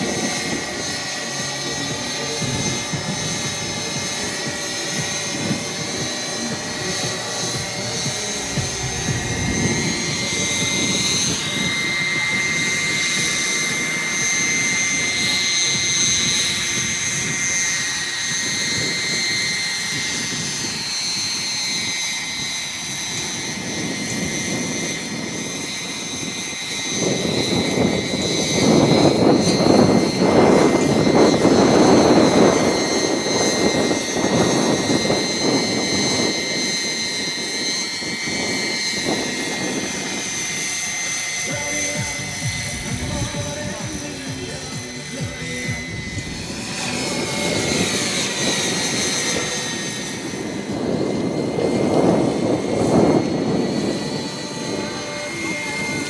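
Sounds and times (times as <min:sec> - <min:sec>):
helicopter rotor noise: 0:00.0 - 0:56.0
model helicopter whine: 0:00.0 - 0:56.0.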